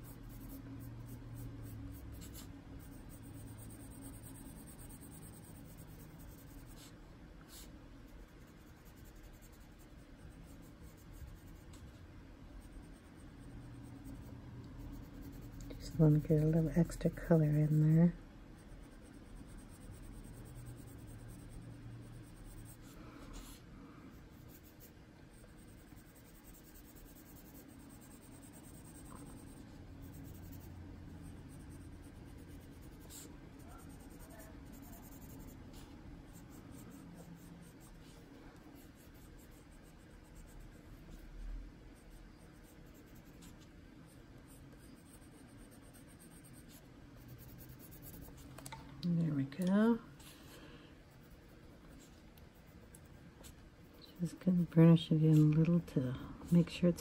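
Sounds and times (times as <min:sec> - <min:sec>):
pencil scratching on paper: 0:00.0 - 0:48.5, 0:51.1 - 0:57.0.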